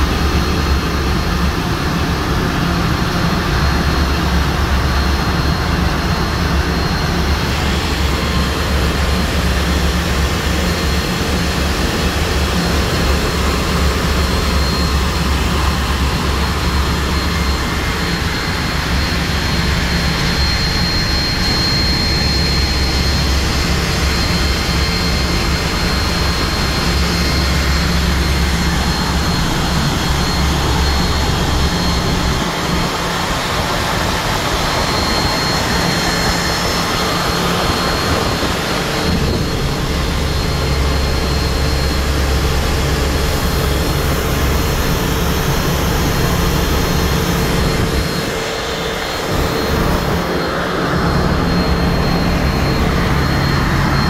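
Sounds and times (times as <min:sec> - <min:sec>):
engine room machinery din: 0:00.0 - 0:54.0
high machine whine: 0:00.0 - 0:54.0.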